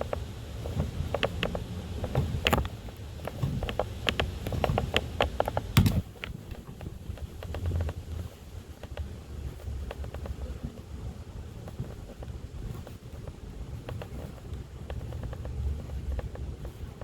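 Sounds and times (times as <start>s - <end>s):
small clicks and scrapes: 0.0s - 17.0s.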